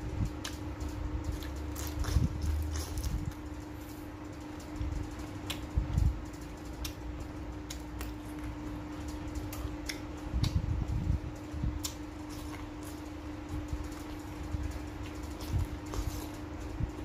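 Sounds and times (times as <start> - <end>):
steady hum: 0.0 - 17.0
chewing and smacking: 0.3 - 6.1, 7.6 - 17.0.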